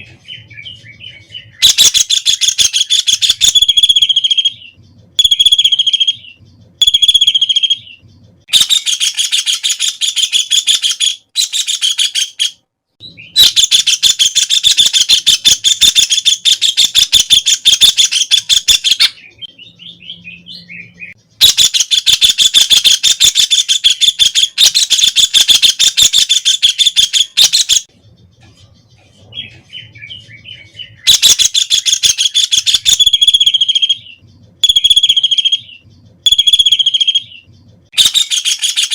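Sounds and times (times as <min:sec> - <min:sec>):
soft bird chatter: 0:00.0 - 0:38.9.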